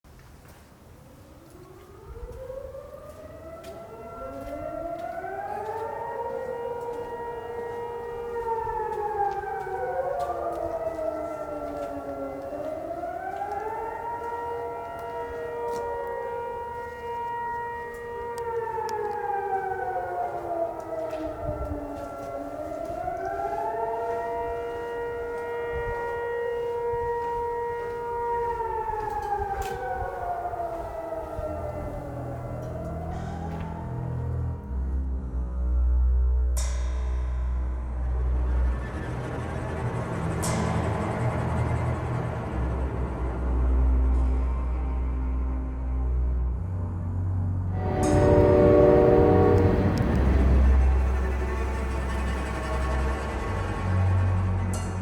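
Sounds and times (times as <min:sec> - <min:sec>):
wailing civil defense siren: 0:00.8 - 0:36.6, 0:37.4 - 0:47.0, 0:47.6 - 0:55.0.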